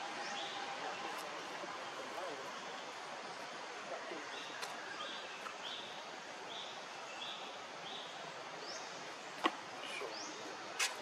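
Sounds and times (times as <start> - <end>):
steady forest hiss: 0.0 - 11.0.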